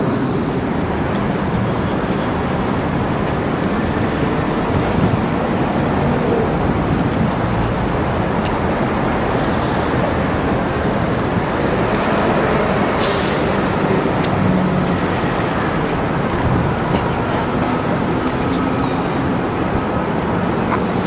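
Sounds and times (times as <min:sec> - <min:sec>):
street traffic roar: 0:00.0 - 0:21.0.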